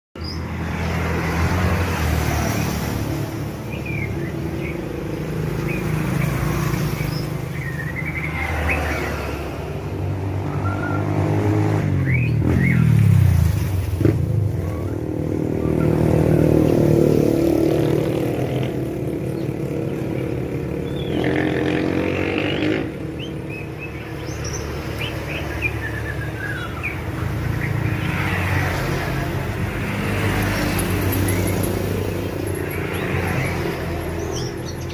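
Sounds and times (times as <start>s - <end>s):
bird chirping and singing: 0.2s - 1.1s, 3.4s - 13.1s, 14.6s - 34.9s
engine and traffic noise: 0.2s - 34.9s.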